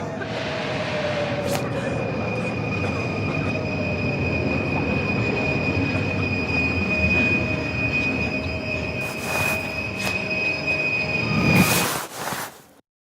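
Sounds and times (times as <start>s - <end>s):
high whine: 0.0s - 12.1s.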